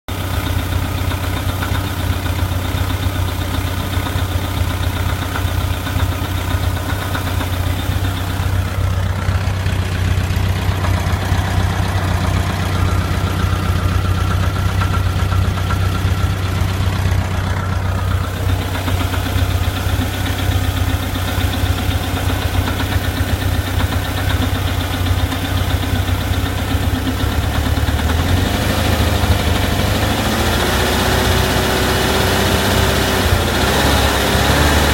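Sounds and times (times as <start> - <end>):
engine knocking: 0.0 - 34.9
air-cooled engine idling: 0.1 - 34.9.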